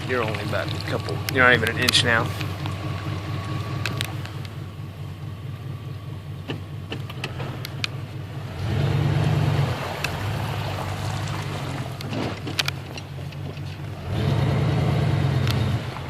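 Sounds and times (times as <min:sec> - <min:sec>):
car engine running: 0:00.0 - 0:16.0
water rushing: 0:00.0 - 0:16.0.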